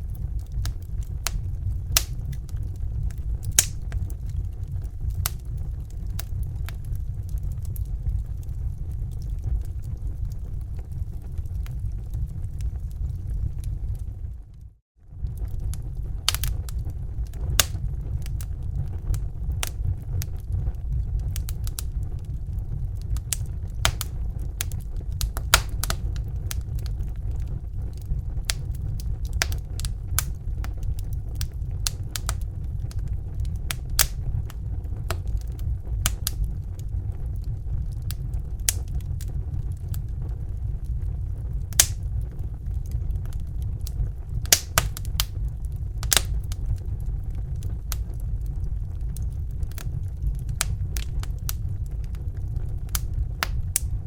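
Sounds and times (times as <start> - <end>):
fire crackling with pops: 0.0 - 54.0
steady low rumble: 0.0 - 54.0.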